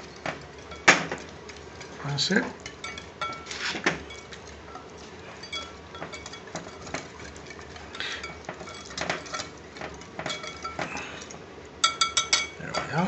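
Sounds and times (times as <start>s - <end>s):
utensil clinking against glass bowl: 0.0s - 13.0s.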